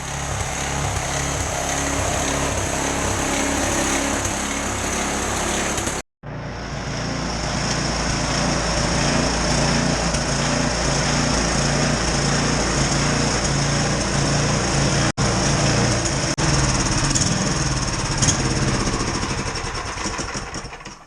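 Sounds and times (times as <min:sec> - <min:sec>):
snowblower engine running: 0:00.0 - 0:21.0.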